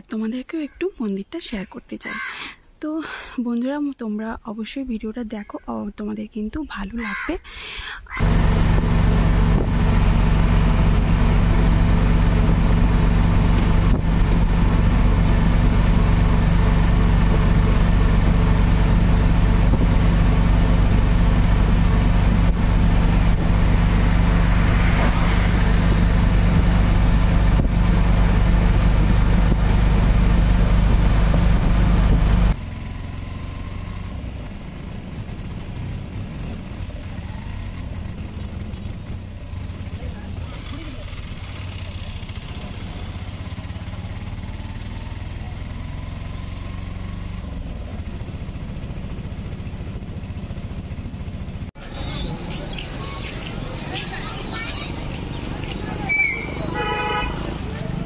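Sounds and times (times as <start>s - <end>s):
quiet vehicle rumble: 0.0s - 58.0s
vehicle road noise and engine drone: 0.0s - 58.0s.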